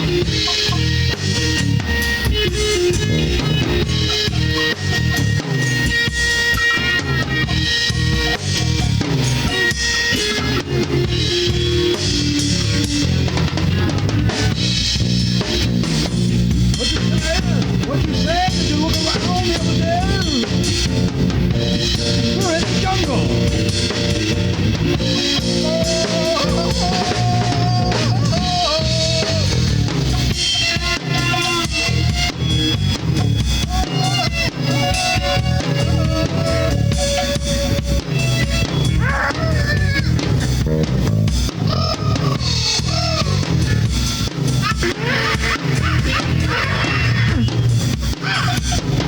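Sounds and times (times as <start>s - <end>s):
bending electric guitar lead: 0.0s - 49.0s
rock band playing: 0.0s - 49.0s.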